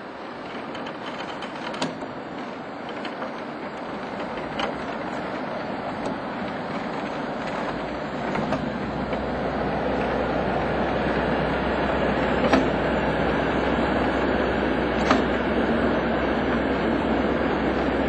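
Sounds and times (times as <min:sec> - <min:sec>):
locomotive running noise: 0:00.0 - 0:18.0
wheel clicks on rails: 0:00.0 - 0:18.0.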